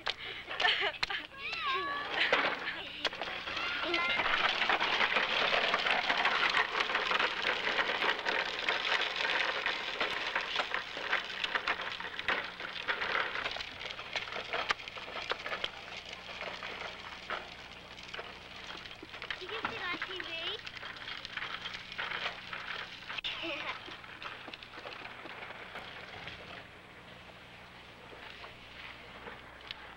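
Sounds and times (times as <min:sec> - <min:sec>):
plastic wheels rolling on concrete: 0:00.0 - 0:29.9.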